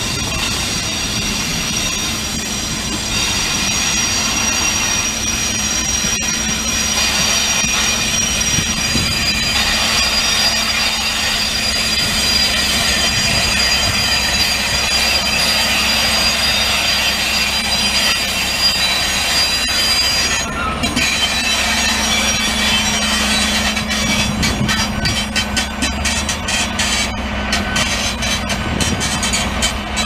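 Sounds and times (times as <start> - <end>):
diesel engine hum: 0.0 - 30.0
train wheels squealing: 0.0 - 30.0.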